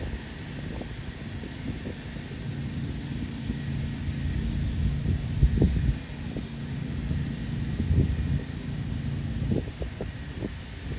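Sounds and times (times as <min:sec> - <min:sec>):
jet engines rumbling: 0:00.0 - 0:10.9
wind buffeting microphone: 0:00.0 - 0:10.9.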